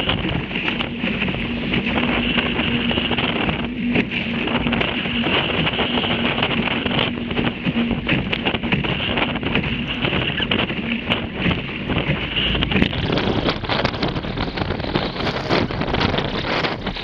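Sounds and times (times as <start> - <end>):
water rushing: 0.0 - 17.0
wind buffeting microphone: 0.0 - 17.0.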